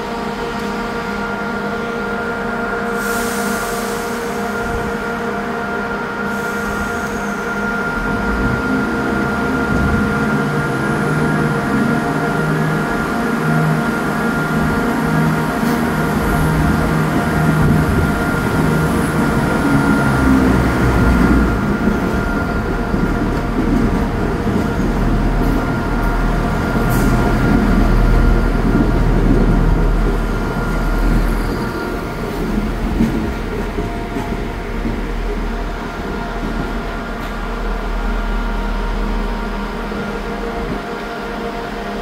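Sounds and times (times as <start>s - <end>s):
diesel train engines droning: 0.0s - 42.0s.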